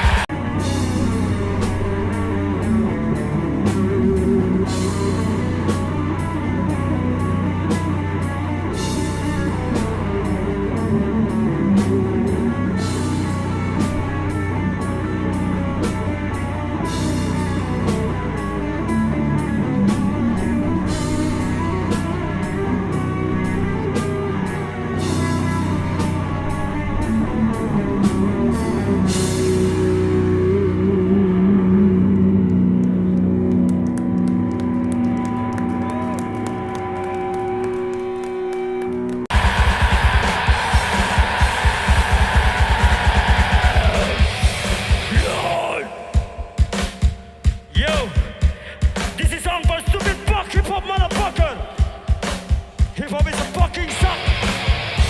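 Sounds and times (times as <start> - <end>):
drum kit and cymbals: 0.0 - 30.2, 39.3 - 55.0
heavy distorted guitars: 0.0 - 55.0.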